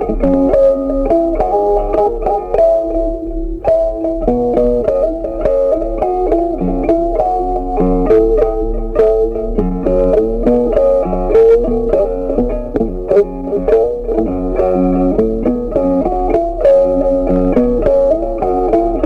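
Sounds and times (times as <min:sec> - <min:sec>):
bass line: 0:00.0 - 0:19.0
plucked guitar melody: 0:00.0 - 0:19.0.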